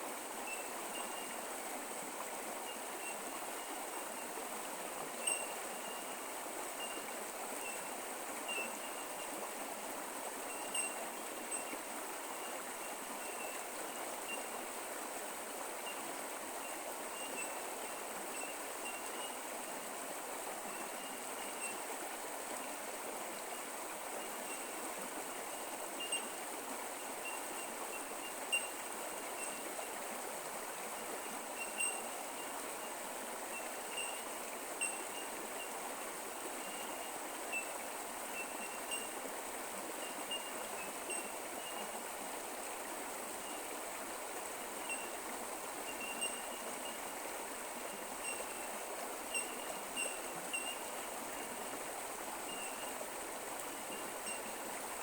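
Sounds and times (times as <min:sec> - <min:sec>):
creek flowing: 0:00.0 - 0:55.0.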